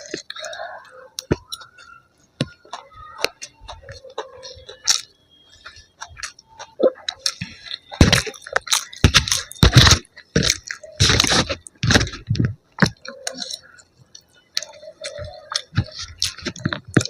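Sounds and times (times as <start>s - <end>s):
mouth clicks: 0.0s - 17.0s
person chewing crunchy food: 0.0s - 17.0s.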